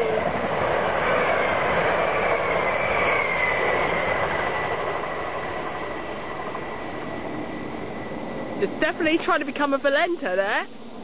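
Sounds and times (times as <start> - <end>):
train wheel and rail noise: 0.0 - 11.0.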